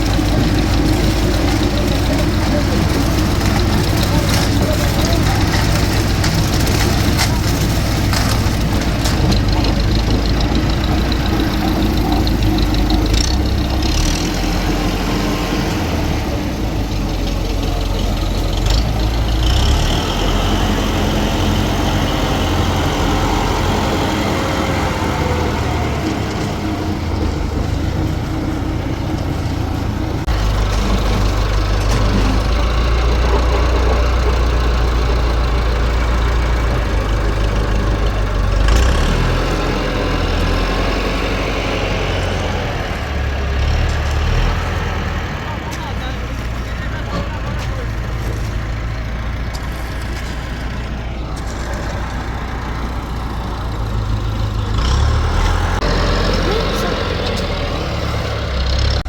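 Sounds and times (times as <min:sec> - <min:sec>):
machinery engine low hum: 0:00.0 - 0:59.0.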